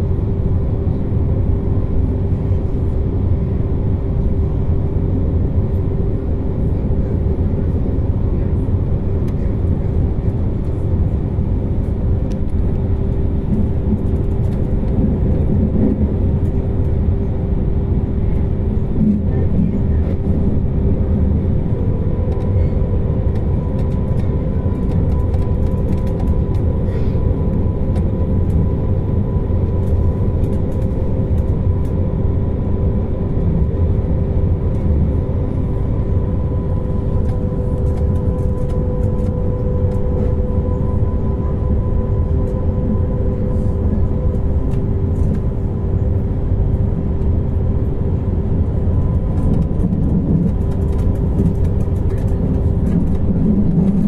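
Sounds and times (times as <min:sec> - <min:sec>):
traction equipment drone: 0:00.0 - 0:54.0.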